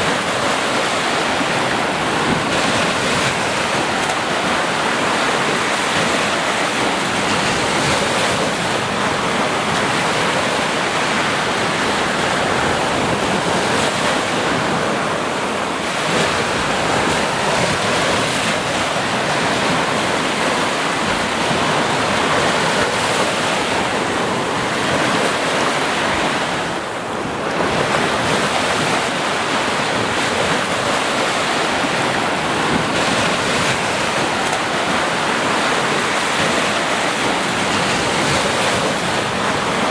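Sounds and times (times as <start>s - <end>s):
sea waves on a beach: 0.0s - 39.9s
wind: 0.0s - 39.9s.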